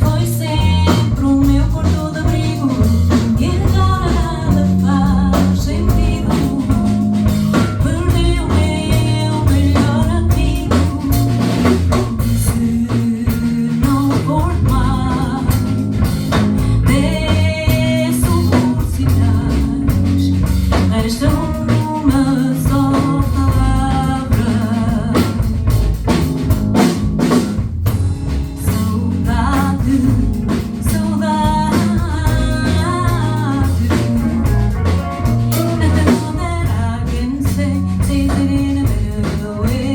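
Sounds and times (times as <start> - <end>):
person singing: 0.0 - 25.7, 28.6 - 39.9
drum kit: 0.0 - 39.9
guitar: 0.0 - 39.9.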